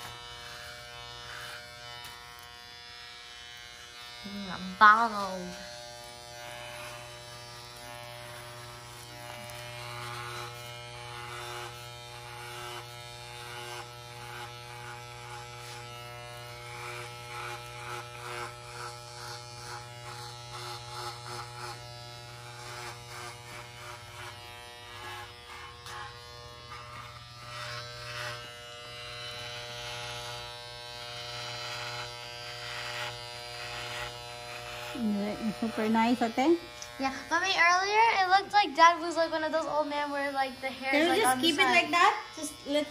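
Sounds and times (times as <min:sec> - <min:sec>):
blades rasping through hair: 0:00.0 - 0:42.9
electric shaver buzzing: 0:00.0 - 0:42.9.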